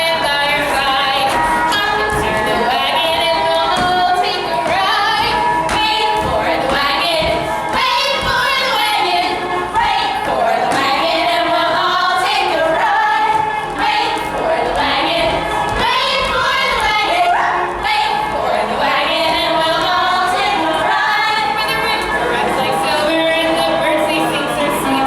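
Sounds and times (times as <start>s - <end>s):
instrumental accompaniment: 0.0s - 25.0s
women singing: 0.0s - 25.0s.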